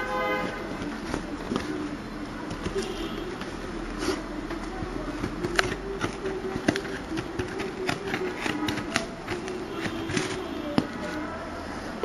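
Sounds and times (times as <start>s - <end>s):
scissors cutting cardboard and tape: 0.7s - 11.3s.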